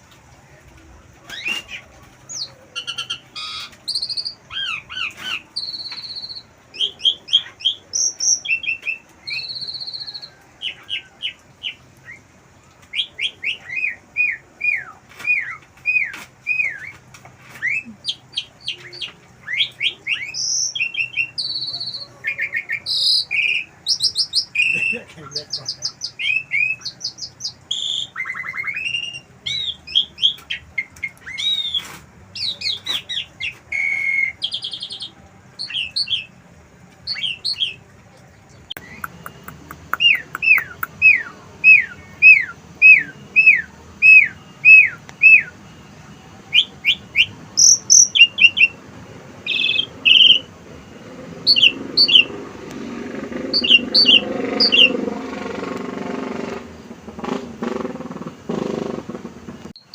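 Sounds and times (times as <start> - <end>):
starling singing: 1.2 - 59.9.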